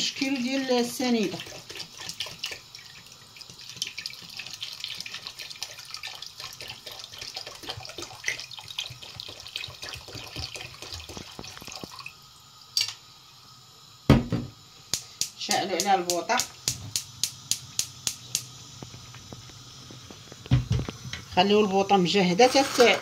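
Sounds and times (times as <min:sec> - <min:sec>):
water pouring into pot: 0:00.0 - 0:23.0.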